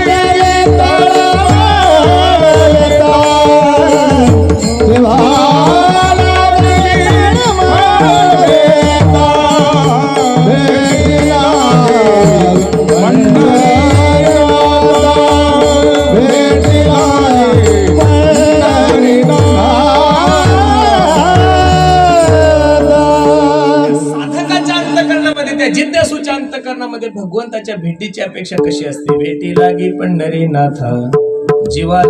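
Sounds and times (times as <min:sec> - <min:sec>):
sustained instrumental tones: 0:00.0 - 0:32.0
tabla drumming: 0:00.0 - 0:32.0
voices singing devotional melody: 0:00.0 - 0:32.0.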